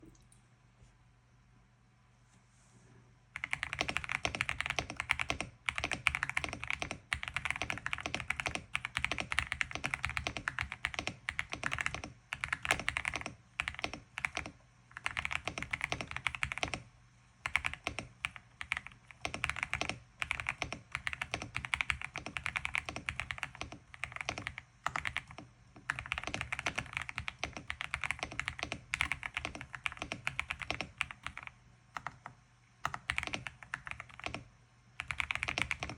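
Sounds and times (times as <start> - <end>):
mechanical keyboard typing: 3.4 - 35.9.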